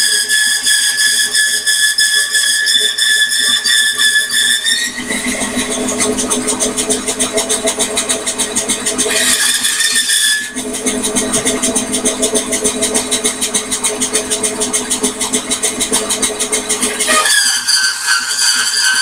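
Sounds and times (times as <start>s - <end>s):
bandsaw whining: 0.0s - 19.0s.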